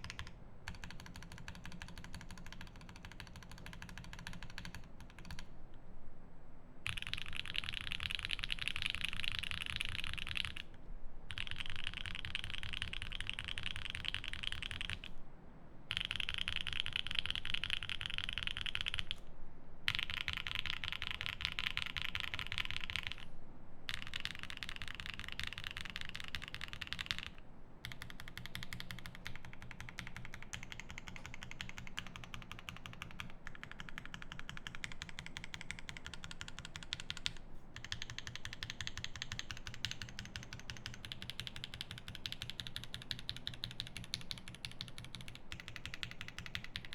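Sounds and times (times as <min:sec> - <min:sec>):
fast typing on mechanical keyboard: 0:00.0 - 0:05.5, 0:06.9 - 0:10.7, 0:11.3 - 0:15.1, 0:15.9 - 0:19.2, 0:19.9 - 0:23.3, 0:23.9 - 0:46.9.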